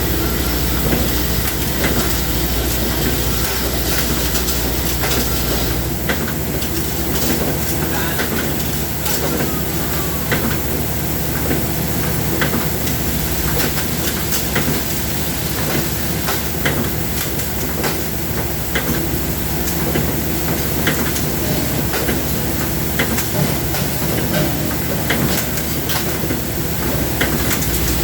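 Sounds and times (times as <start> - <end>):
machinery humming: 0.0 - 28.0.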